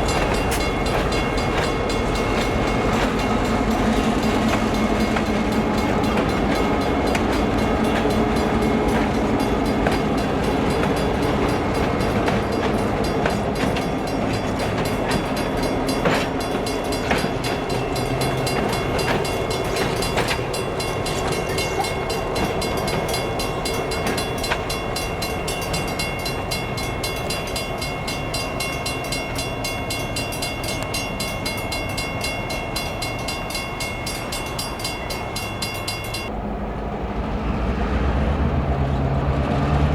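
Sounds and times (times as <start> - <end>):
train wheel clicks: 0.0 - 36.3
freight train rumbling: 0.0 - 39.9.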